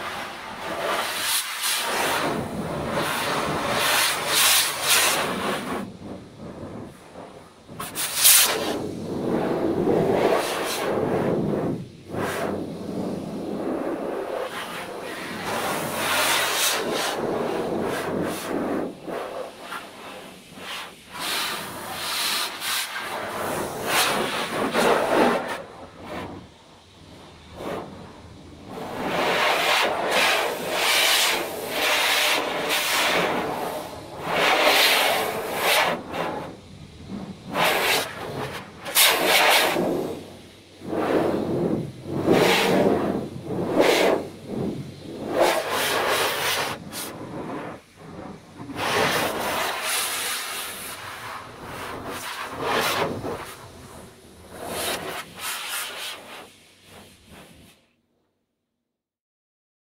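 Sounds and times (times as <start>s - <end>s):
swishing strokes on car body: 0.0s - 57.8s.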